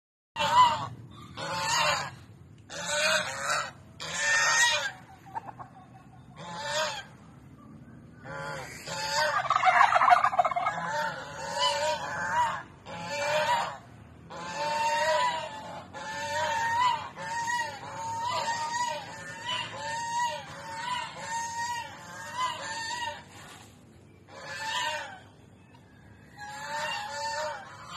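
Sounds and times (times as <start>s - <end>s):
rattling poultry call: 0.4s - 7.1s, 8.2s - 23.4s, 24.3s - 25.4s, 26.2s - 27.9s
poultry calling: 0.4s - 7.3s, 8.2s - 27.9s.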